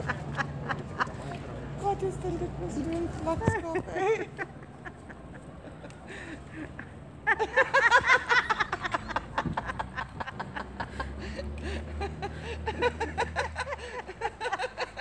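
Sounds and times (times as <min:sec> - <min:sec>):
group of people laughing: 0:00.0 - 0:01.5, 0:03.4 - 0:15.0.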